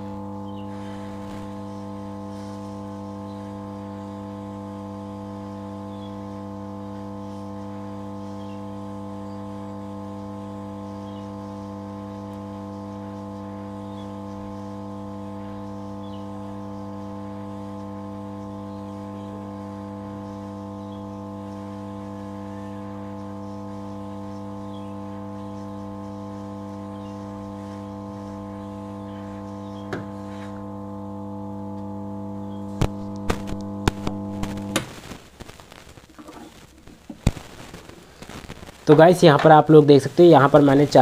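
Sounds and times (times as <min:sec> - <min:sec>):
hot-air blower humming: 0:00.0 - 0:41.0.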